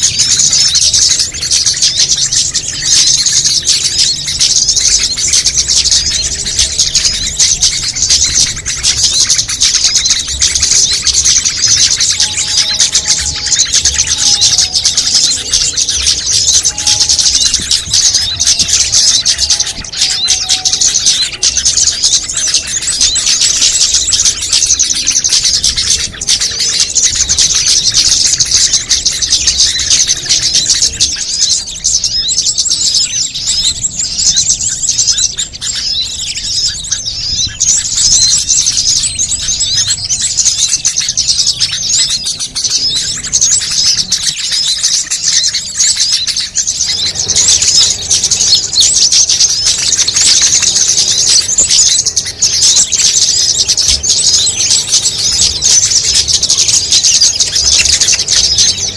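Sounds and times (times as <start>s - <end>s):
songbirds chirping and twittering: 0.0s - 58.9s.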